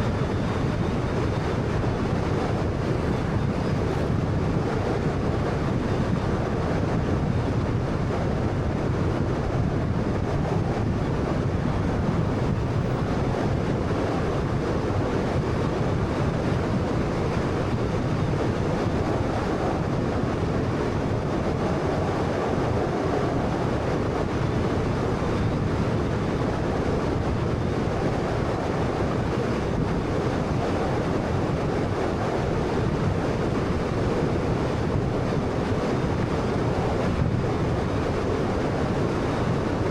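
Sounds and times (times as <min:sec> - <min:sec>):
car road and tyre noise: 0:00.0 - 0:39.9.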